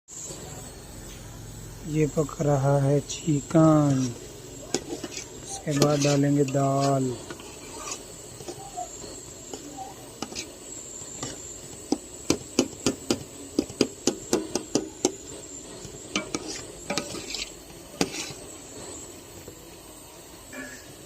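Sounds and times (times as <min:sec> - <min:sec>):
low sizzle: 0:00.1 - 0:21.0.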